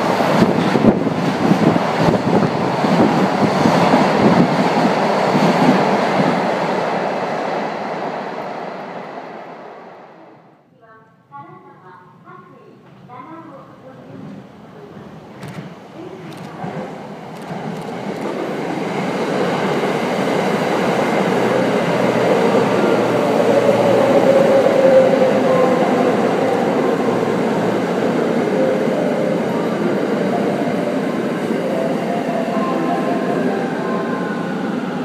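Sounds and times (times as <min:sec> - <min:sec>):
train rushing past: 0:00.0 - 0:10.6, 0:15.2 - 0:35.0.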